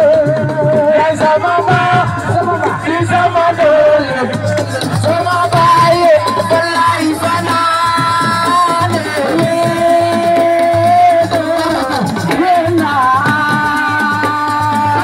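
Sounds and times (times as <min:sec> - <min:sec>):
hand drumming: 0:00.0 - 0:15.0.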